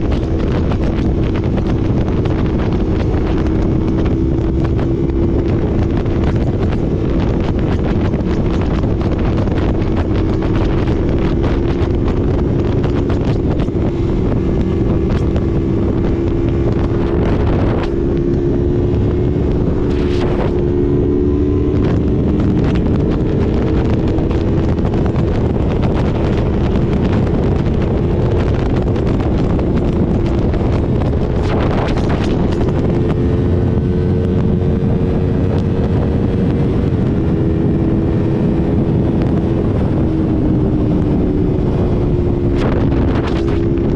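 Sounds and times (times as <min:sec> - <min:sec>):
motorcycle engine: 0:00.0 - 0:43.9
wind noise on microphone: 0:00.0 - 0:43.9.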